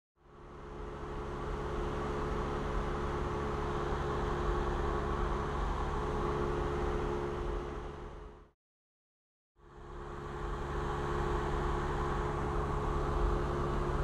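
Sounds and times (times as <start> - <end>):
airplane engine drone in cabin: 0.2 - 8.5, 9.6 - 14.0.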